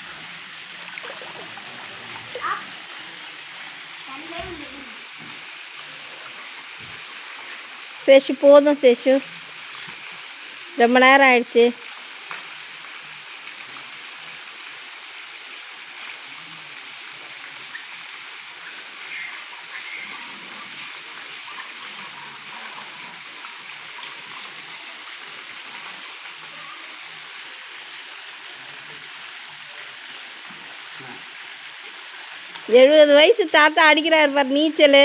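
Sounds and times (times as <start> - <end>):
waterfall rushing into pool: 0.0 - 35.0.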